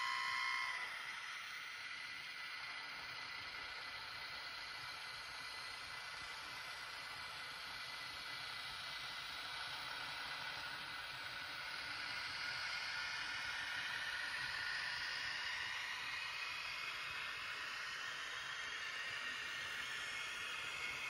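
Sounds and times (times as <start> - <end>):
faint high whine: 0.0 - 21.0
model train motors hissing: 0.0 - 21.0.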